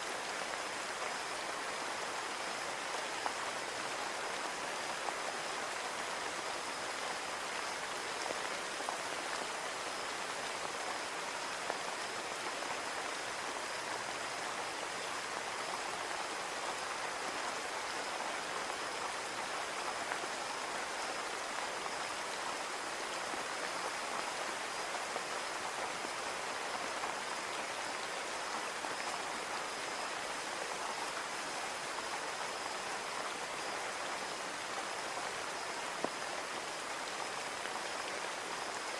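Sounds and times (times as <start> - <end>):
rain hissing on a window: 0.0 - 38.9.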